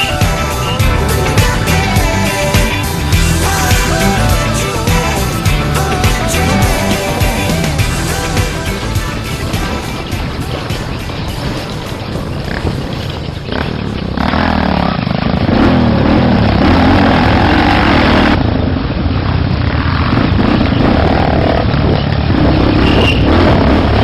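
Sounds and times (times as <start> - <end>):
off-road motorcycle engine revving: 0.0 - 24.0.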